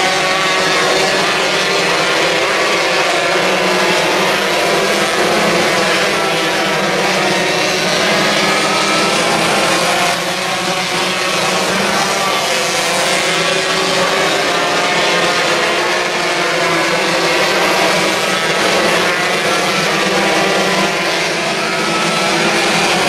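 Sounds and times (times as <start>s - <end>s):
racing two-stroke engines: 0.0s - 23.0s.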